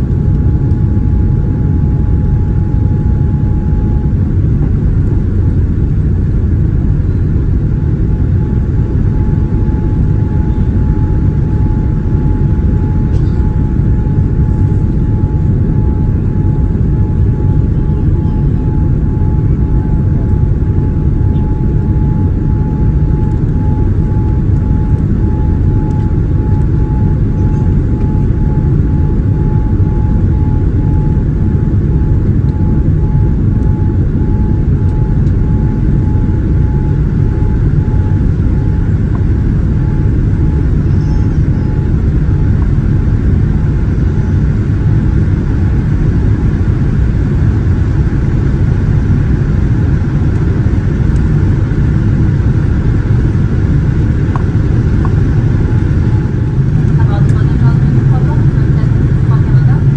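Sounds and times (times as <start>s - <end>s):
aircraft engine and airflow rumble: 0.0s - 59.9s
faint steady whine: 0.0s - 59.9s.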